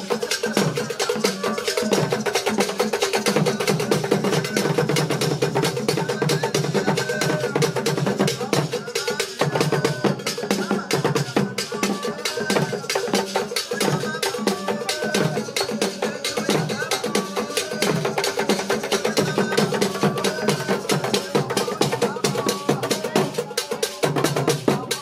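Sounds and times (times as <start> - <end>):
drums: 0.0 - 25.0.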